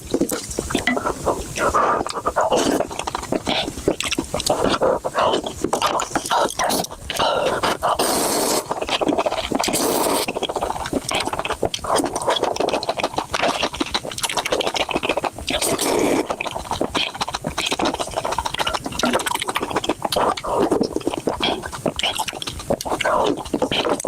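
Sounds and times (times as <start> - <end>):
person chewing noodles: 0.0 - 24.0.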